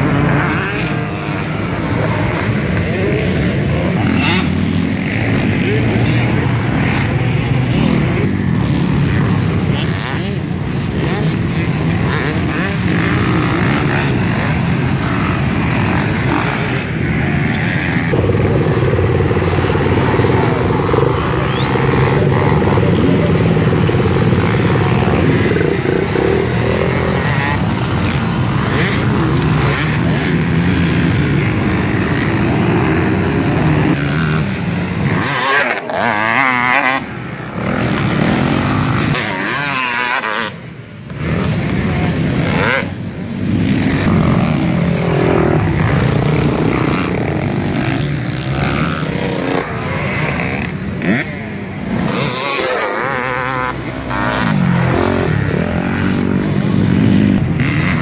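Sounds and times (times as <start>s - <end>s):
dirt bike engines: 0.0s - 58.0s
dirt bike revving hard: 0.0s - 58.0s.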